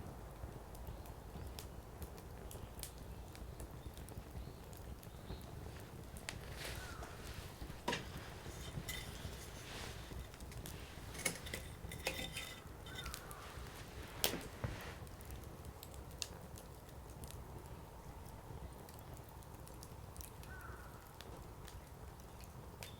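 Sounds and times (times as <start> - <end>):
firewood crackling and popping: 0.0 - 22.9.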